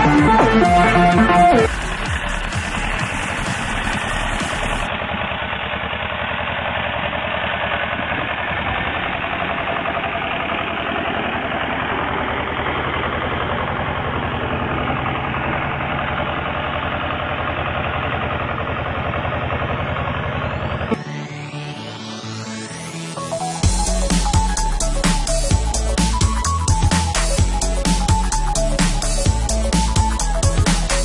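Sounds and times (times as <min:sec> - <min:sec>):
small tractor engine running: 0:00.0 - 0:31.0.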